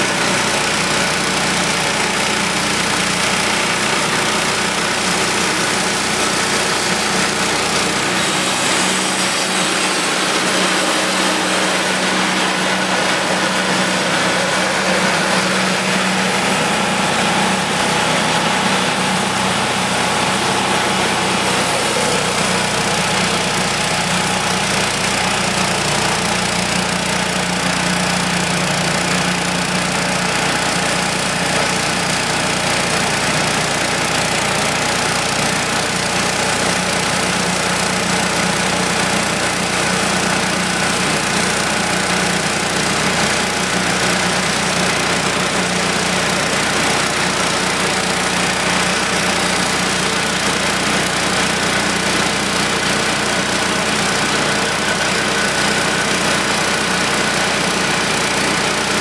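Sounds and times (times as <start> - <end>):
band sawmill cutting log: 0.0 - 59.0.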